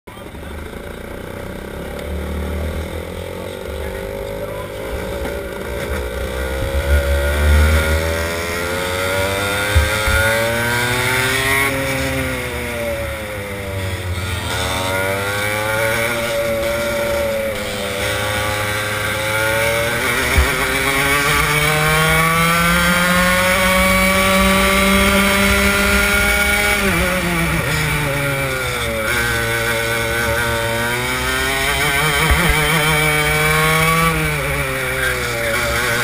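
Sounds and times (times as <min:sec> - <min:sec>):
go-kart engine revving: 0:00.1 - 0:36.0.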